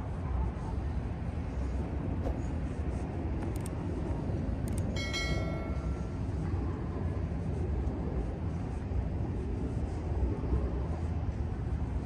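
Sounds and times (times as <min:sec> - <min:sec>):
low city rumble: 0:00.0 - 0:12.0.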